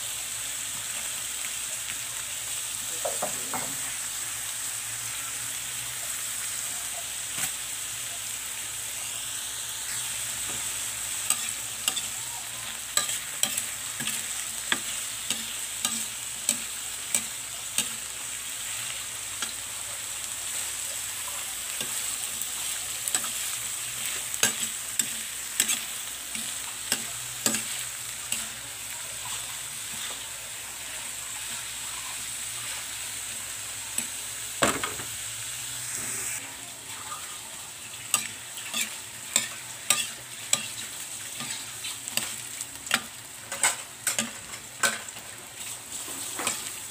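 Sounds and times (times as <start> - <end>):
vegetables sizzling in a pan: 0.0 - 46.9.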